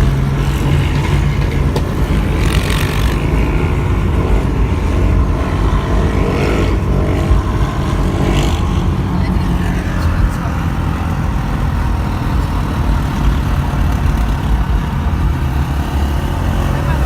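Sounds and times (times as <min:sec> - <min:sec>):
quad bike engines running: 0:00.0 - 0:17.0.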